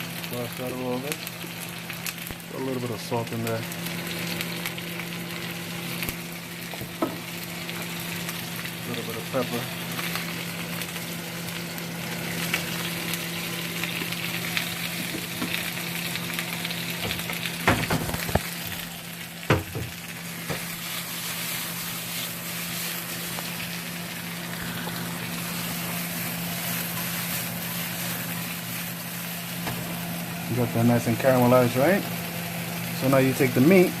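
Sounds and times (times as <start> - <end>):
steady low hum: 0.0 - 34.0
vegetables sizzling in a wok: 0.0 - 34.0.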